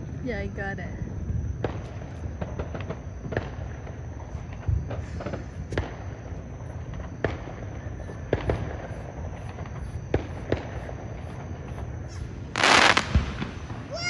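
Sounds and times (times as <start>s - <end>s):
distant fireworks pops and bangs: 0.8s - 14.0s.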